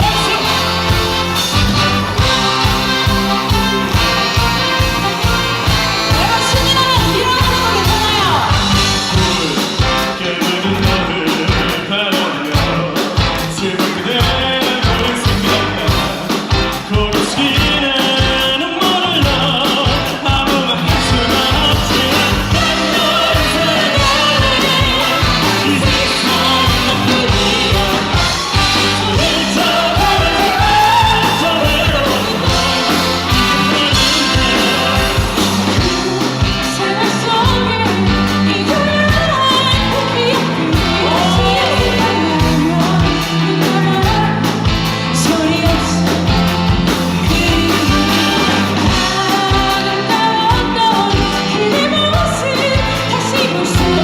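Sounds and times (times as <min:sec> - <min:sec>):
person singing: 0:00.0 - 0:01.6, 0:02.2 - 0:54.0
big band playing pop-rock: 0:00.0 - 0:54.0.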